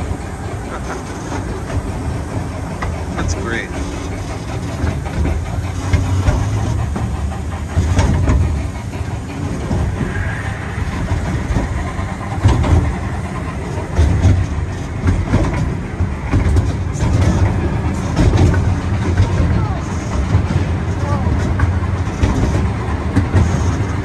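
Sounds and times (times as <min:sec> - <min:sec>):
ride train rumbling on track: 0:00.0 - 0:24.0
wheels clicking and clattering: 0:00.0 - 0:24.0.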